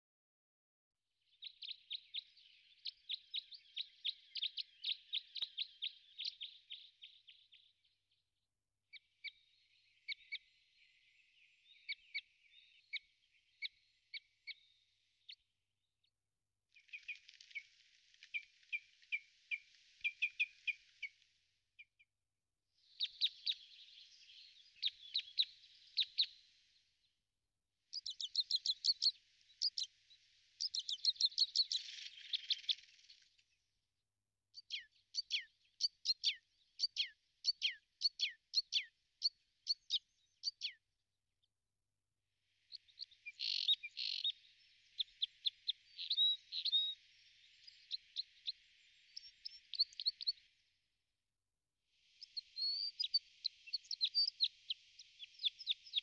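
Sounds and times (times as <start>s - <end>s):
songbirds singing and chirping: 1.3s - 8.3s, 8.9s - 15.6s, 16.7s - 21.2s, 22.8s - 26.9s, 27.9s - 33.4s, 34.6s - 40.9s, 42.6s - 50.6s, 52.0s - 56.0s.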